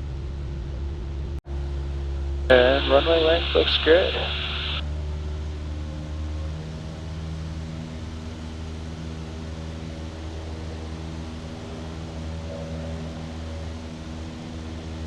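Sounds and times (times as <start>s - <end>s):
aircraft engine droning in cabin: 0.0s - 15.0s.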